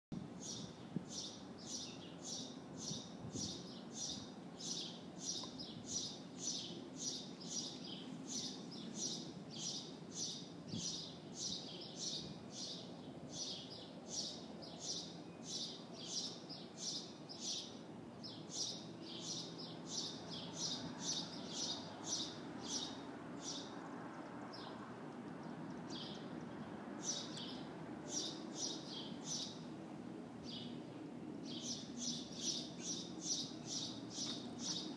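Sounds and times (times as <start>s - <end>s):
small bird chirping: 0.4s - 29.7s, 31.4s - 34.9s.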